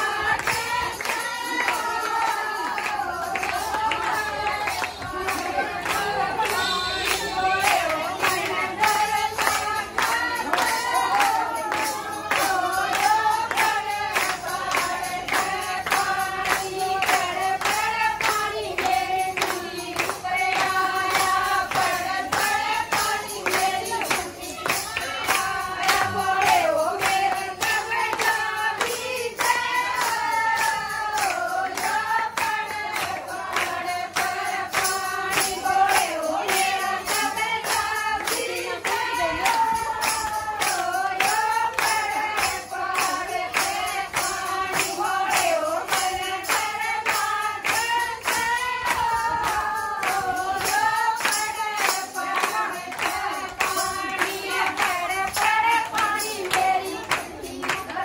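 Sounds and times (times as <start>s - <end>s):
rhythmic hand-clapping: 0.0s - 58.0s
women singing folk song: 0.0s - 58.0s.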